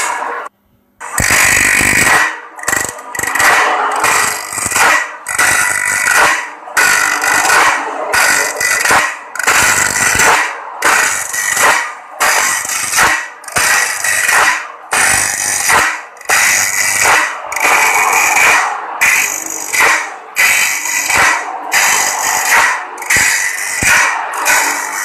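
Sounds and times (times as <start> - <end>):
grinding wheel on saw blade: 1.0 - 25.0.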